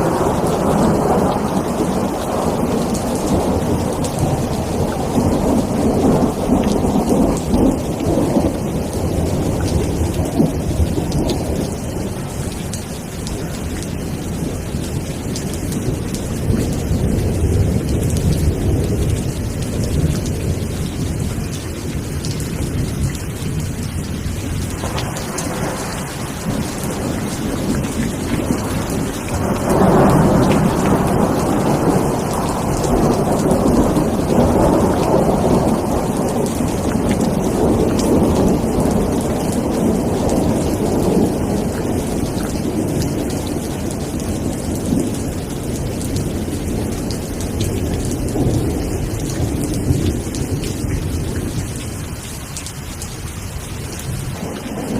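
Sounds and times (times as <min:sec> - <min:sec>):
thunder rumbling: 0:00.0 - 0:52.2, 0:53.3 - 0:54.9
steady rain: 0:00.0 - 0:54.9.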